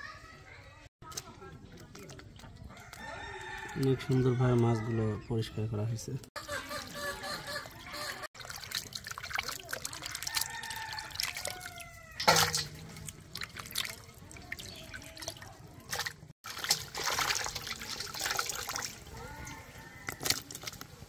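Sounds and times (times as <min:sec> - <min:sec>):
water splashing and dripping: 0:01.0 - 0:04.8, 0:06.7 - 0:21.0.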